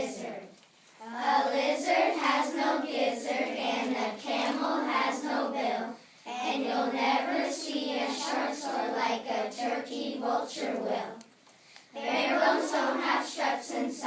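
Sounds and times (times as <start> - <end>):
children reciting in chorus: 0.0 - 11.2, 11.9 - 14.0.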